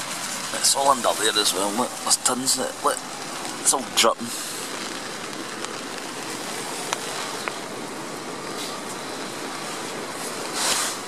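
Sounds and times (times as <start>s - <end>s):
heavy rain on a canvas tent: 0.0s - 11.0s.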